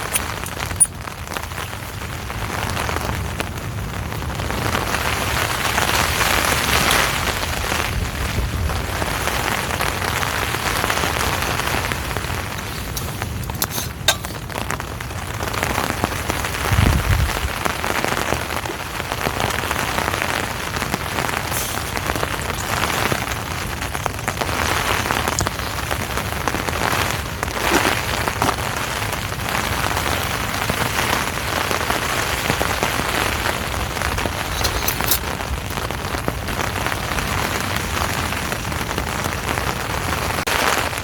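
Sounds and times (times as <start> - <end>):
heavy rain on a tent: 0.0 - 41.0.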